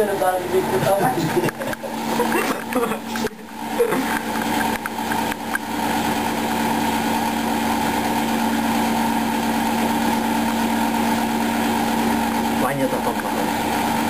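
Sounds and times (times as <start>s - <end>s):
washing machine drum humming: 0.0s - 14.0s.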